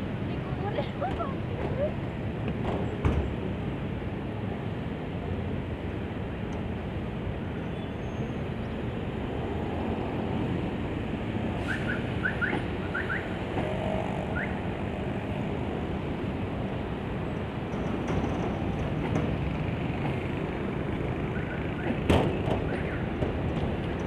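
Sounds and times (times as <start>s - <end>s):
road traffic rumble: 0.0s - 24.0s
slow-moving train approaching: 0.0s - 24.0s.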